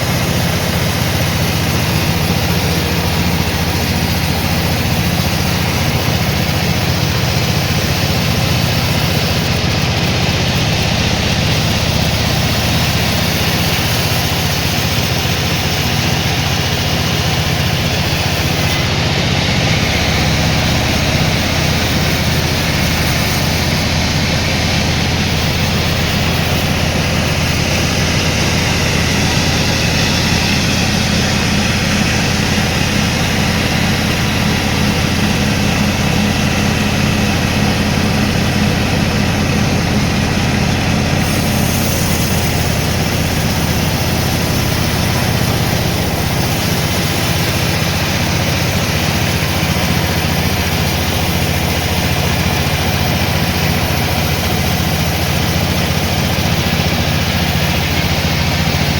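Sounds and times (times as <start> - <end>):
sawmill machinery humming: 0.0 - 58.9.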